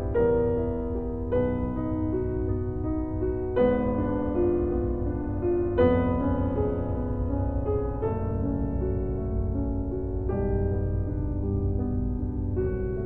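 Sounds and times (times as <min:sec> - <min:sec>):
low steady rumble: 0:00.0 - 0:13.0
slow quiet piano music: 0:00.0 - 0:13.0.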